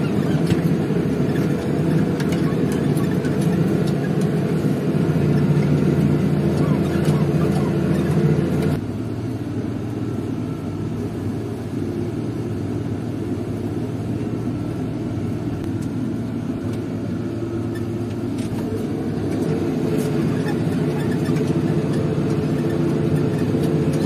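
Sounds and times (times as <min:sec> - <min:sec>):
tractor engine under load: 0:00.0 - 0:24.0.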